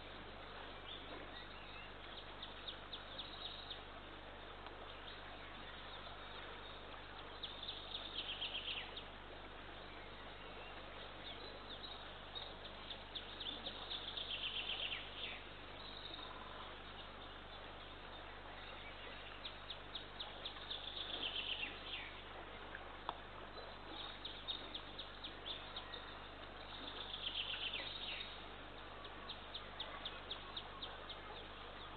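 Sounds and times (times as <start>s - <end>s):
songbird singing: 0.0s - 31.9s
steady background hiss: 0.0s - 31.9s.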